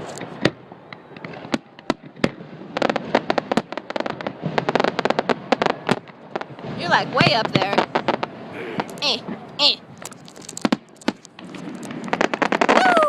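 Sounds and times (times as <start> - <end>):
fireworks bangs: 0.0 - 13.0
fireworks crackling pops: 0.0 - 13.0.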